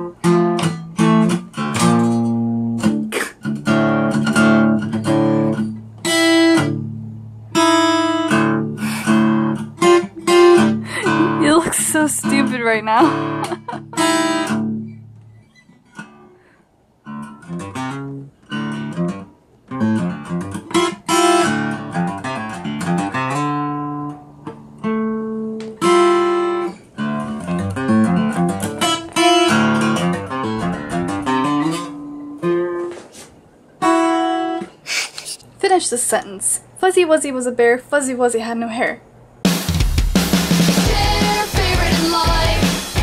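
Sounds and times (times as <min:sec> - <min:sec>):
acoustic guitar playing: 0:00.0 - 0:34.9, 0:39.4 - 0:43.0.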